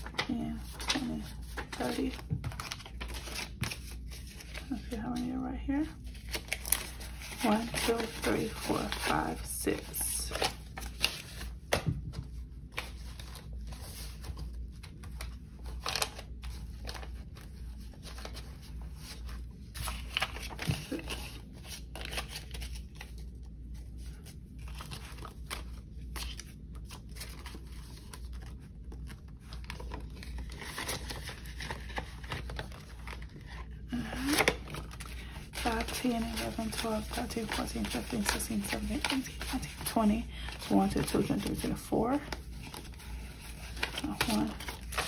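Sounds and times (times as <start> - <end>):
banknotes rustling and flicking: 6.0 - 45.0.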